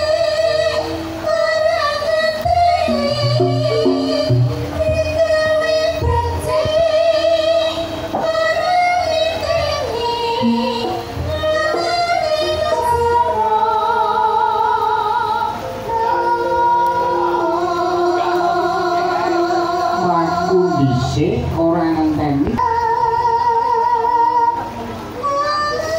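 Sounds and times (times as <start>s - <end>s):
music: 0.0s - 25.9s.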